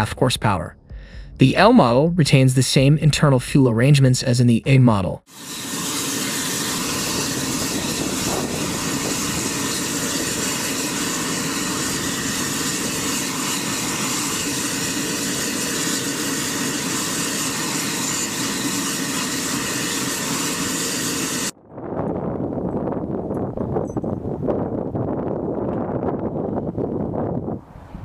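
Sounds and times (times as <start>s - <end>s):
helicopter turbine whine: 5.2s - 28.0s.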